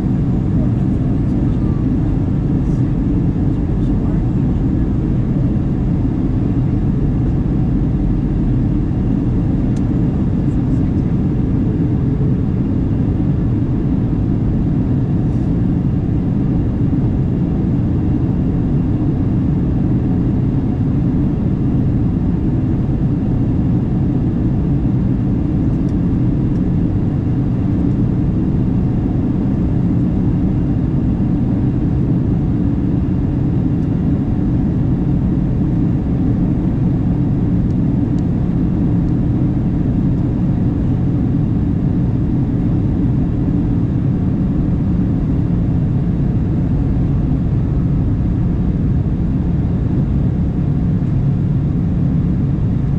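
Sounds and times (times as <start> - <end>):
airplane cabin drone: 0.0 - 52.9.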